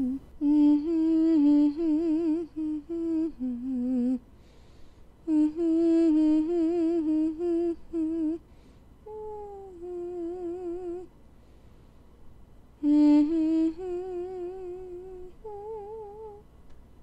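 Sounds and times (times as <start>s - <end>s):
person humming a slow tune: 0.0s - 4.3s, 5.2s - 11.1s, 12.8s - 16.5s.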